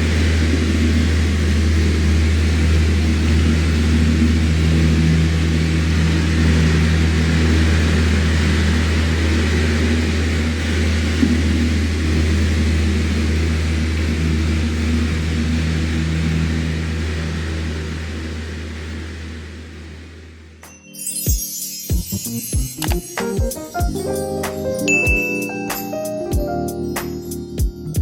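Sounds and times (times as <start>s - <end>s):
electric fan running: 0.0s - 28.0s.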